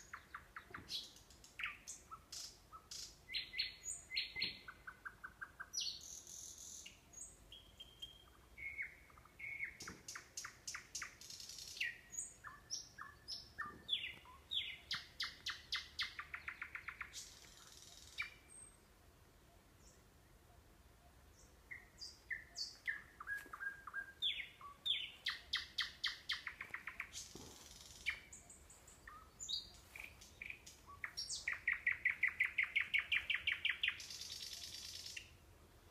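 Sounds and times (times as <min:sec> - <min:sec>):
nightingale singing: 0:00.0 - 0:35.9.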